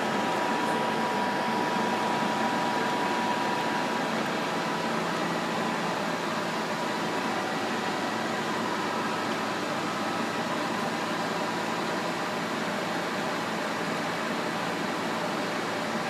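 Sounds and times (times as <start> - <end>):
lathe running with mechanical whir: 0.0 - 16.0.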